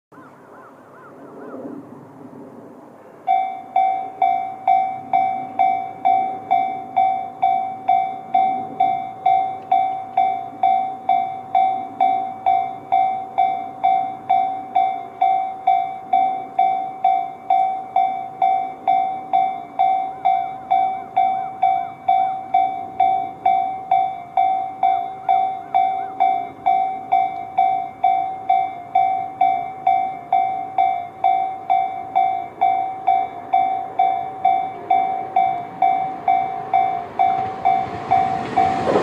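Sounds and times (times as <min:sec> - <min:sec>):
level crossing warning bell ringing: 0:03.2 - 0:39.0.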